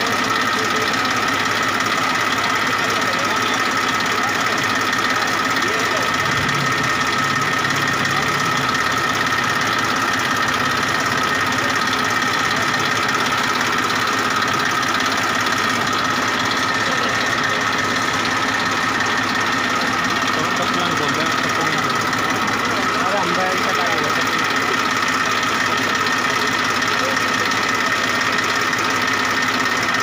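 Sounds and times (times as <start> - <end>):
tractor diesel engine idling: 0.0 - 30.0.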